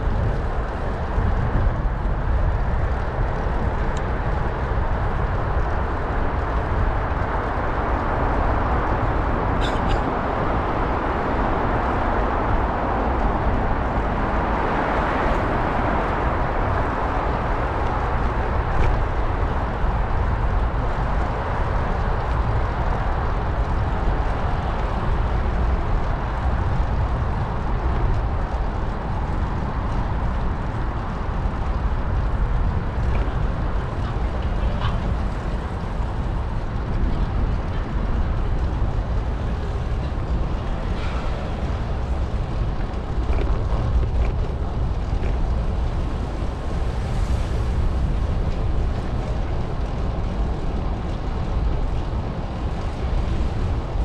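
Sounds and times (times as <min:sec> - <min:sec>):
deep continuous rumble: 0:00.0 - 0:54.0
wind rushing over microphone: 0:00.0 - 0:54.0.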